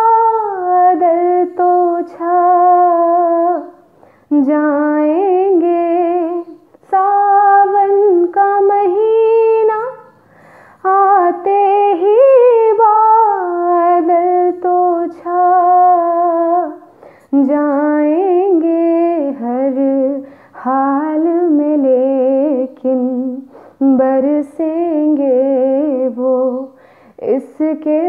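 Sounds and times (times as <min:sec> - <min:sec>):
woman singing unaccompanied: 0:00.0 - 0:28.0.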